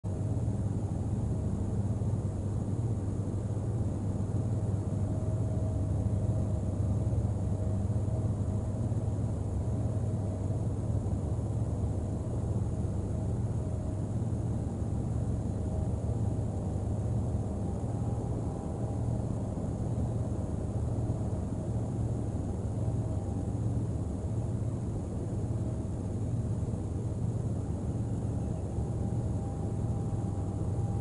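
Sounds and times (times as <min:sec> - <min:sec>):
faint steady hum: 0:00.0 - 0:31.0
low outdoor rumble: 0:00.0 - 0:31.0.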